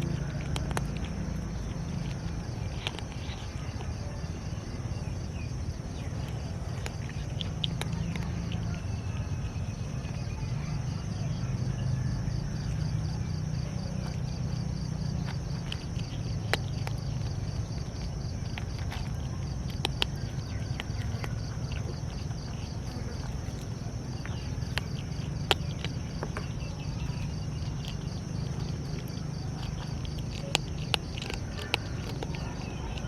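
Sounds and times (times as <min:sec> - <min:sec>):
cats chewing clicks: 0:00.0 - 0:10.4, 0:13.4 - 0:33.0
steady low hum: 0:00.0 - 0:33.0.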